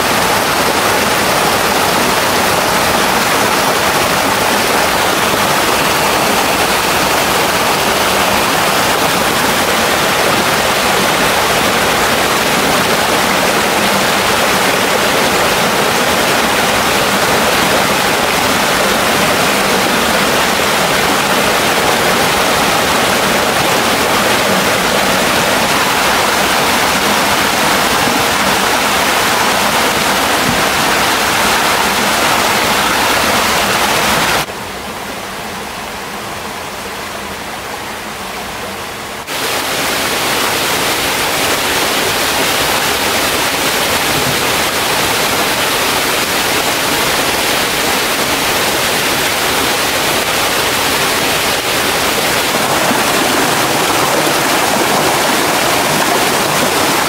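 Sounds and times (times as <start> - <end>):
water rushing over waterfall: 0.0 - 34.5, 39.2 - 57.0.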